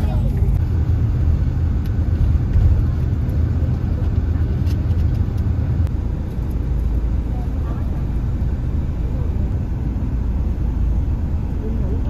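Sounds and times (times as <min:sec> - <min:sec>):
road and engine rumble in vehicle: 0:00.0 - 0:12.0.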